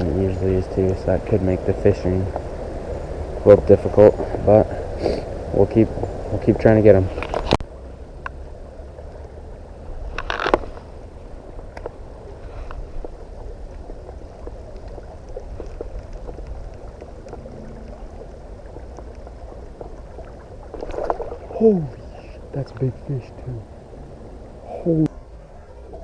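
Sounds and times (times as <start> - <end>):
fast river current: 0.0 - 26.0.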